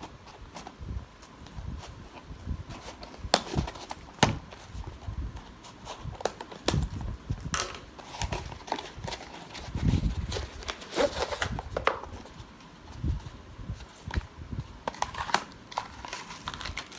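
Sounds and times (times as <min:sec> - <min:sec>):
cardboard parcel being handled: 0:00.0 - 0:16.9.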